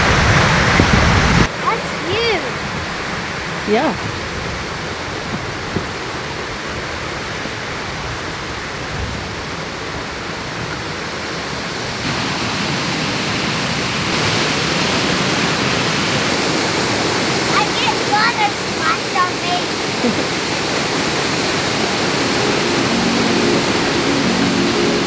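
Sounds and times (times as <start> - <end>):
rushing creek water: 0.0 - 25.0.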